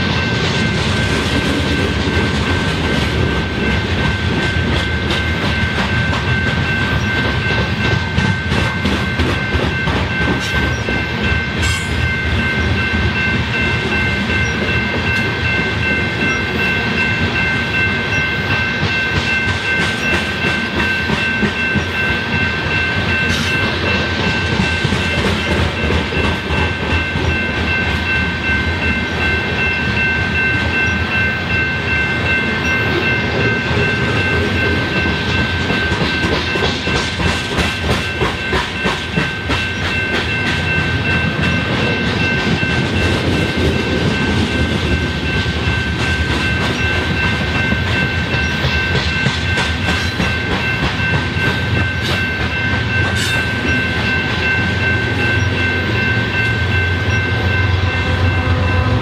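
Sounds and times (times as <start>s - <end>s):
train wheels clicking over rail joints: 0.0s - 31.1s, 32.8s - 56.8s
high ringing warning bell: 0.0s - 59.0s.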